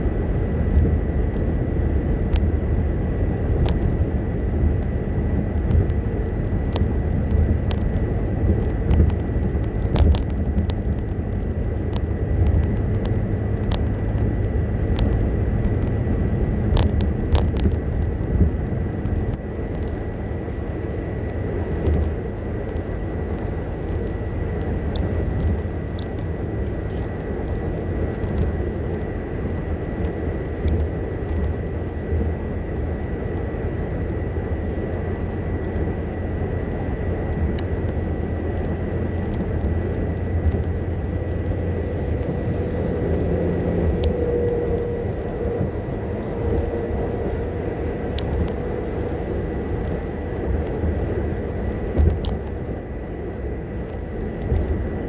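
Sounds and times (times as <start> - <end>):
engine hum: 0.0 - 55.0
tyre and road noise: 0.0 - 55.0.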